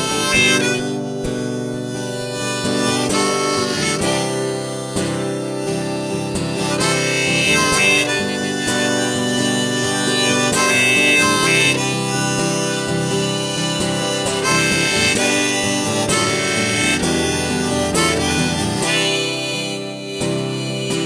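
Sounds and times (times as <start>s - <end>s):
acoustic guitar strumming: 0.0s - 21.0s
harmonica melody: 0.0s - 21.0s.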